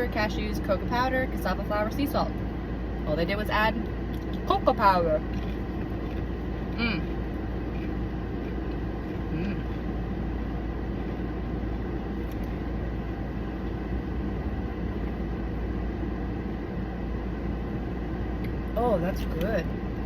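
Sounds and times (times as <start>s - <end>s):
car interior low rumble: 0.0s - 20.0s.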